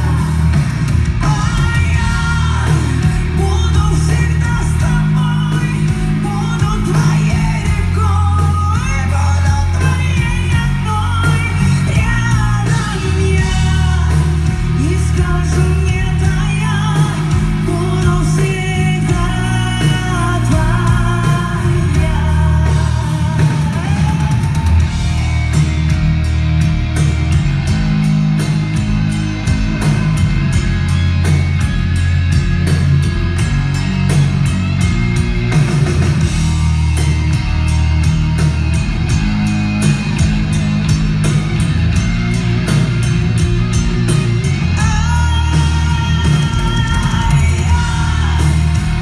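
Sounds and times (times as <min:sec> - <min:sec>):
live pop-rock band playing: 0:00.0 - 0:49.0.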